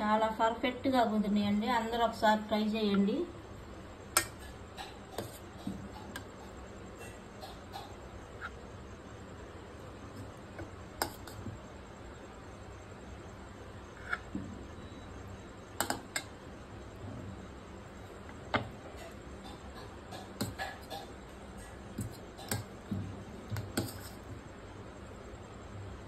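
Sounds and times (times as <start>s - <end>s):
faint background hum: 0.0s - 26.0s.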